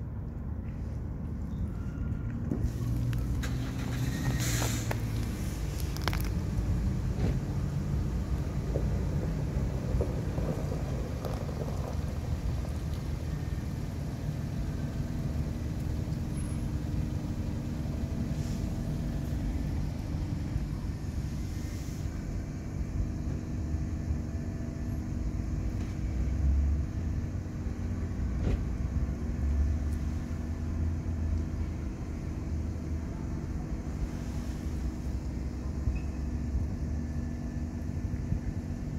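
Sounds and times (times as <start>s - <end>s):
road traffic rumble: 0.0s - 38.9s.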